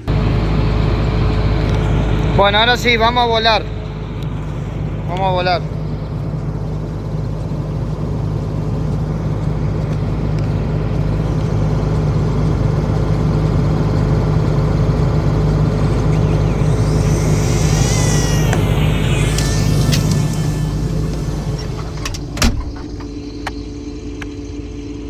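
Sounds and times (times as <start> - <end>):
combine harvester engine running: 0.0 - 25.0
high-pitched whine: 0.0 - 25.0.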